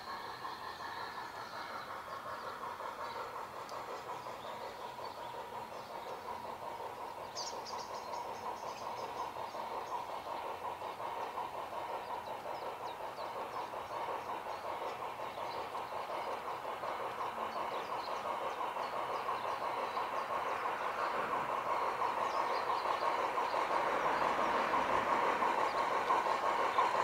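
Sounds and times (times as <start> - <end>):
model train clattering on track: 0.0 - 27.0.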